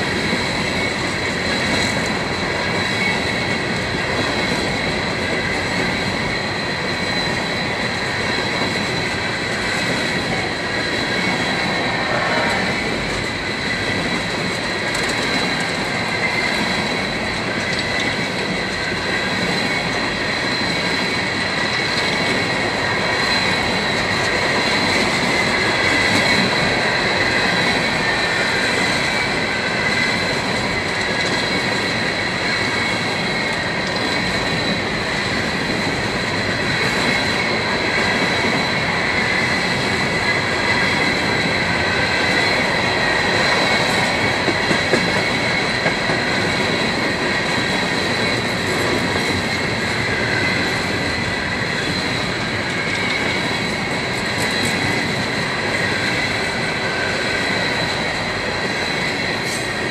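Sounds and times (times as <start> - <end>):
train wheels rumbling on rail: 0.0 - 59.9
high wheel squeal: 2.4 - 59.9.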